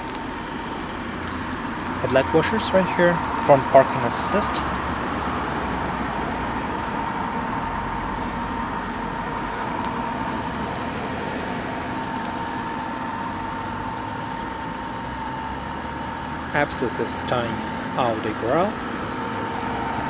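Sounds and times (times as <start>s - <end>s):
car engine idling: 0.0s - 20.0s
thin steady whine: 0.0s - 20.0s.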